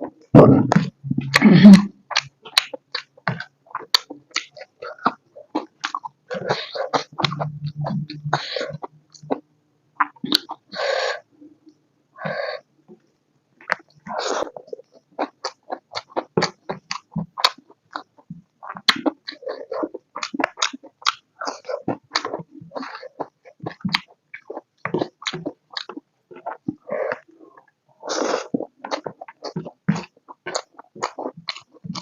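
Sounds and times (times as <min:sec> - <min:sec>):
person chewing with wet smacking: 0:02.1 - 0:11.2, 0:13.6 - 0:32.0.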